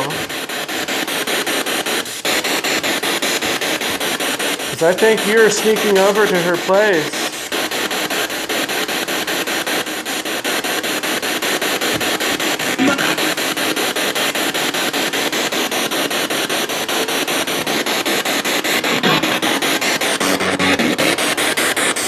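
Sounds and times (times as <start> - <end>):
pulsing radio static hiss: 0.0 - 22.0.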